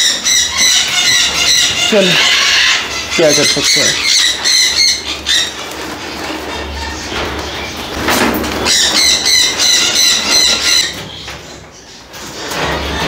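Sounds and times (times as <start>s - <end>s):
parrot squawking: 0.0s - 11.2s.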